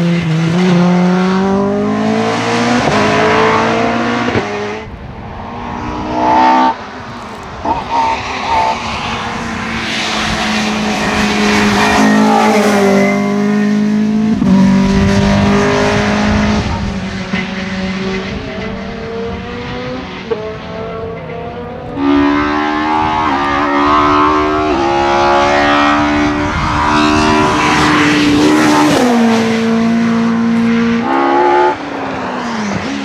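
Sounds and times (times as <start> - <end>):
rally car engines revving: 0.0 - 33.0
tyre noise rush: 2.3 - 33.0.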